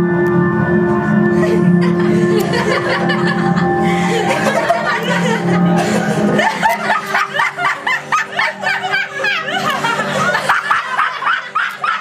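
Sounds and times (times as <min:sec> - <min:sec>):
people laughing: 0:01.3 - 0:12.0.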